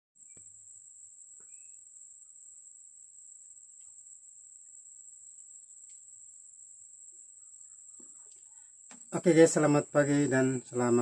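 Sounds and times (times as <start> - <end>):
insects droning: 0.2 - 11.0.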